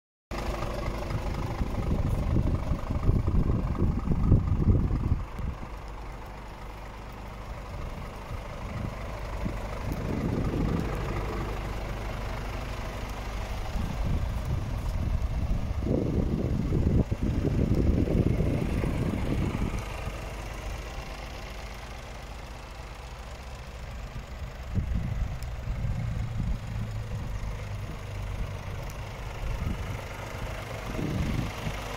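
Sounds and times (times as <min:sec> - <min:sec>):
diesel truck engine idling: 0:00.3 - 0:31.9.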